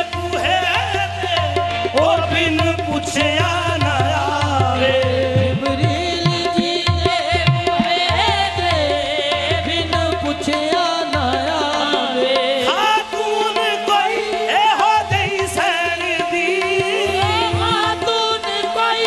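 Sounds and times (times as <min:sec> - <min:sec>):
harmonium chords: 0:00.0 - 0:19.0
person singing ornamented runs: 0:00.0 - 0:19.0
tabla strokes: 0:00.0 - 0:19.0.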